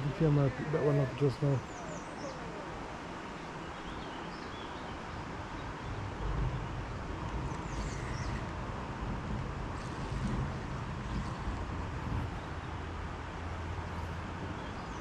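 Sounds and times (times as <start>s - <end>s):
steady riverside hiss: 0.0s - 15.0s.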